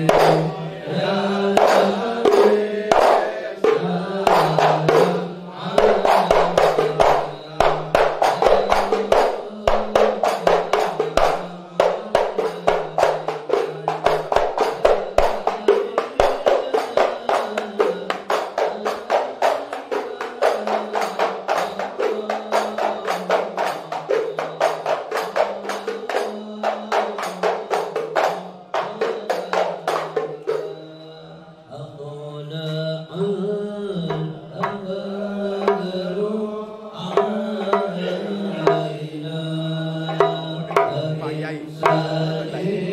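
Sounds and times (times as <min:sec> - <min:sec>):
frame drums beating: 0:00.0 - 0:31.1, 0:33.9 - 0:36.4, 0:37.0 - 0:42.9.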